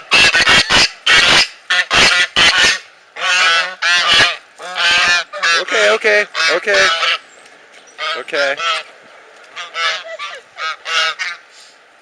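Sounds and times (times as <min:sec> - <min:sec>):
geese honking: 0:00.0 - 0:07.3, 0:07.9 - 0:11.7.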